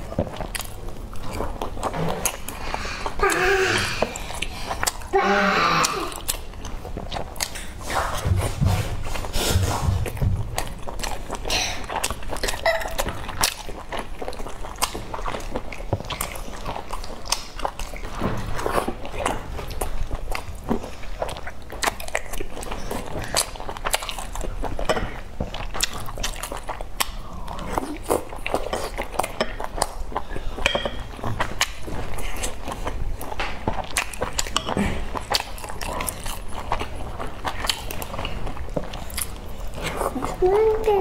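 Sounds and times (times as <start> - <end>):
wet chewing with mouth clicks: 0.0 - 41.0.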